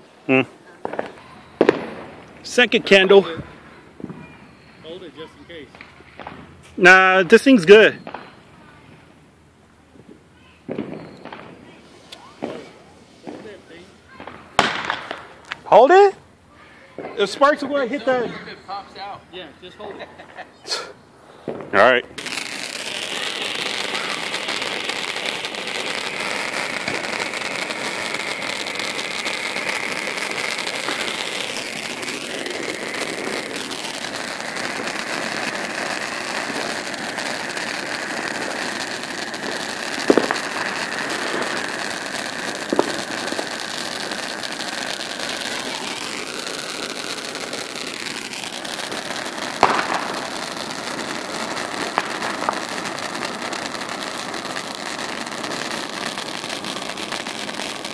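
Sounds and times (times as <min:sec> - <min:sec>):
firework hissing sparks: 0:00.0 - 0:09.2, 0:10.0 - 0:57.9
firework sharp pops: 0:00.8 - 0:04.8, 0:05.6 - 0:06.9, 0:07.6 - 0:08.5, 0:09.9 - 0:15.8, 0:21.4 - 0:57.9.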